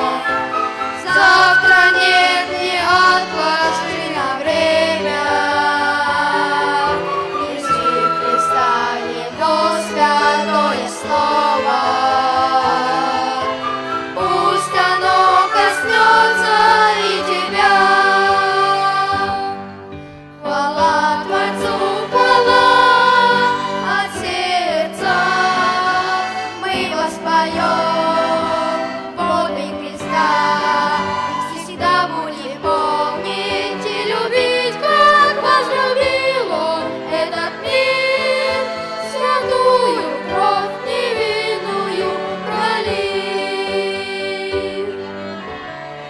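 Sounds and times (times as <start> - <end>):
choir singing a hymn: 0.0 - 46.0
violin ensemble: 0.0 - 46.0.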